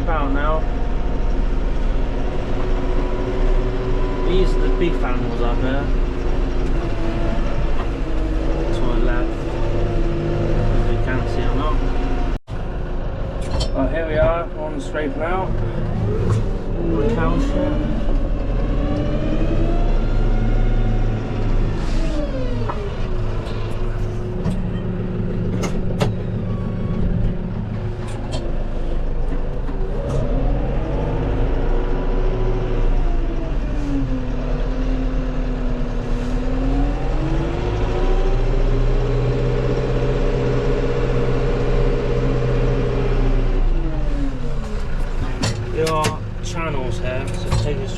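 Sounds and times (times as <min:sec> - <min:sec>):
tractor engine revving: 0:00.0 - 0:47.9.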